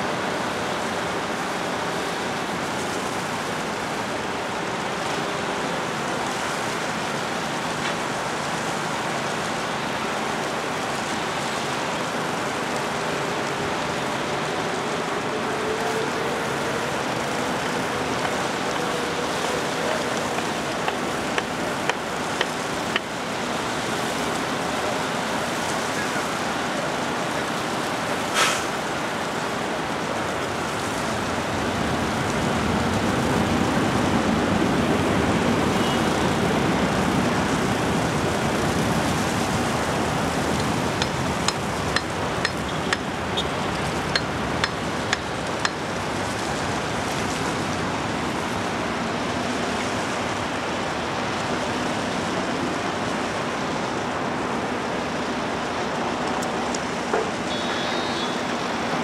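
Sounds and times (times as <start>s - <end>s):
jet engines roaring: 0.0s - 59.0s
road traffic: 0.0s - 59.0s.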